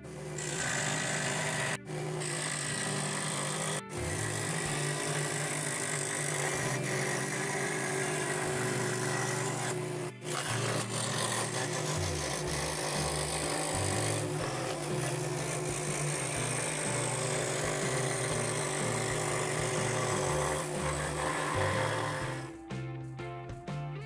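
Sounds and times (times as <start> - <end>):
scroll saw cutting wood: 0.0 - 22.7
background music: 0.0 - 24.0.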